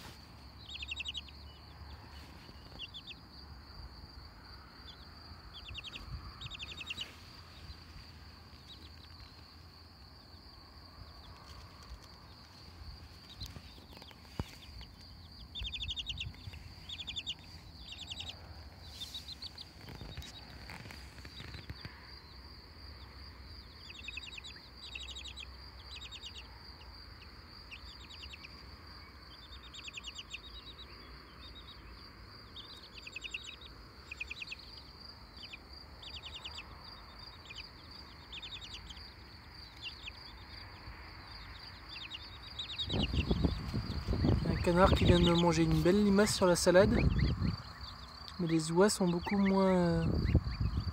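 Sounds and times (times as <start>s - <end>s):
chicks chirping in trilled bursts: 0.0s - 50.9s.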